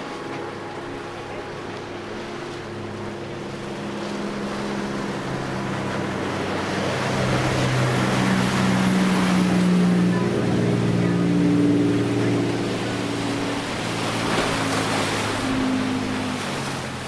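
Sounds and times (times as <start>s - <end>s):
boat diesel engines droning: 0.0s - 17.0s
hull spray and wake rushing: 0.0s - 17.0s.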